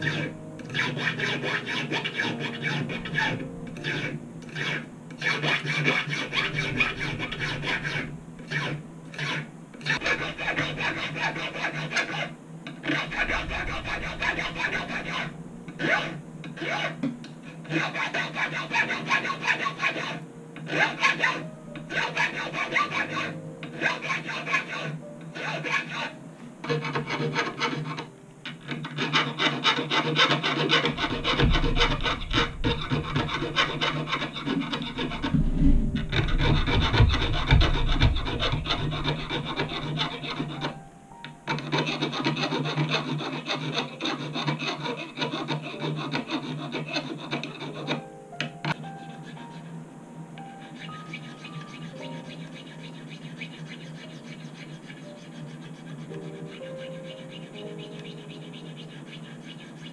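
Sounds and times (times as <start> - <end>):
metal file scraping guitar frets: 0.0 - 40.8, 41.5 - 48.0, 48.6 - 49.7, 50.4 - 59.9.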